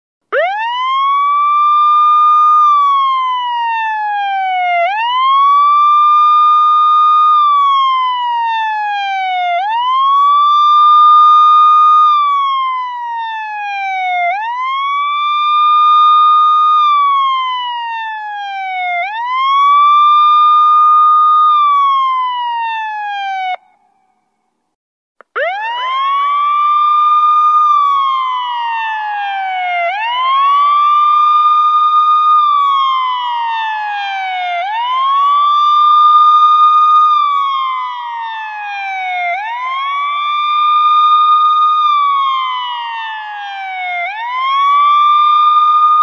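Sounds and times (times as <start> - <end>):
police siren wailing: 0.3 - 24.2, 25.2 - 46.0.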